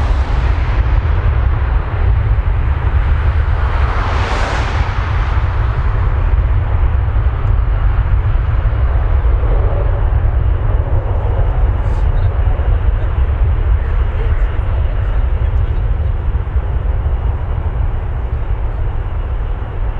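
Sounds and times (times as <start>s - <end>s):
jet airliner engines rumbling: 0.0s - 19.9s.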